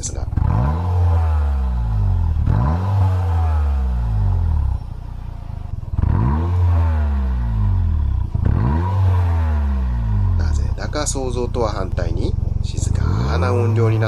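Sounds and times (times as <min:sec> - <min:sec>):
car exhaust idling and revving: 0:00.0 - 0:14.0.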